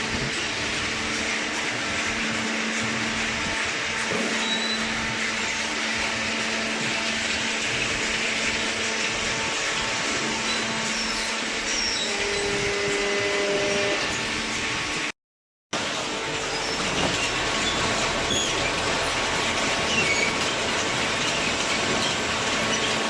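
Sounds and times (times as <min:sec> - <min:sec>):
electric pump motor humming: 0:00.0 - 0:15.1, 0:15.8 - 0:23.0.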